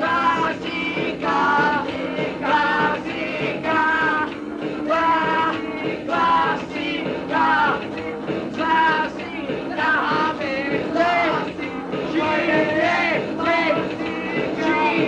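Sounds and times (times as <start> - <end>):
lo-fi punk band music: 0.0 - 15.0.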